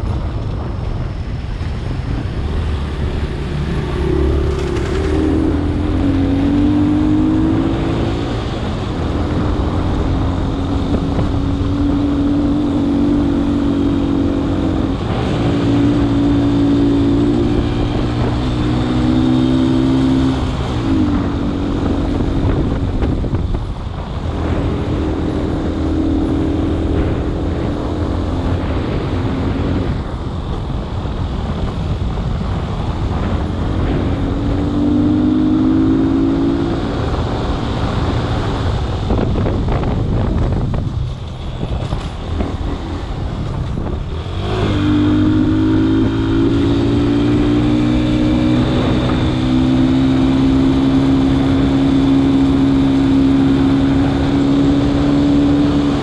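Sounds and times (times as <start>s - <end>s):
road rumble: 0.0s - 56.0s
vehicle engine: 0.0s - 56.0s.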